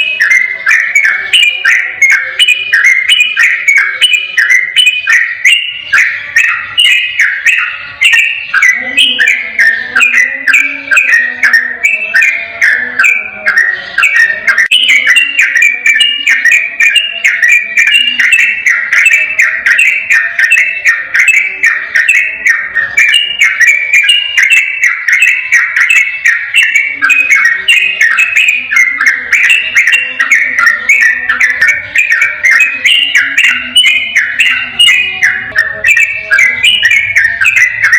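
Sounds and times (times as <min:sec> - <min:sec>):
bulbul singing whistled notes: 0:00.0 - 0:37.9.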